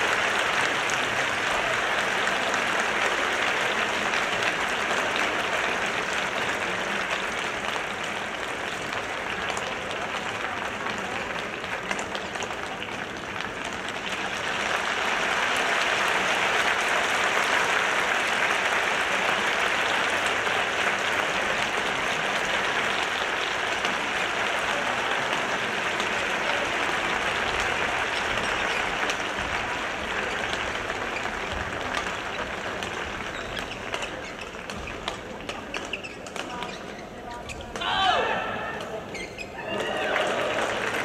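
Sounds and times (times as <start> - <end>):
crowd applauding: 0.0 - 36.0, 39.5 - 41.0.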